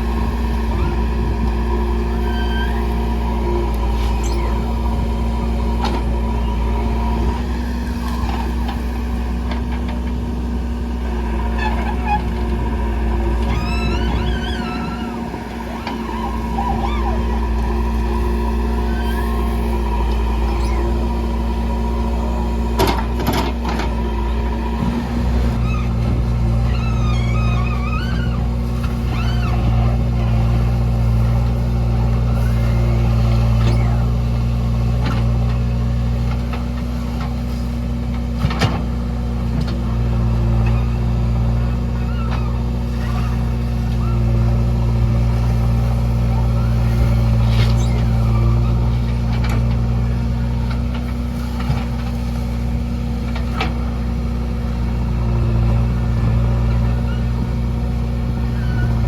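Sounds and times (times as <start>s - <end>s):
backhoe loader diesel engine: 0.0s - 59.0s.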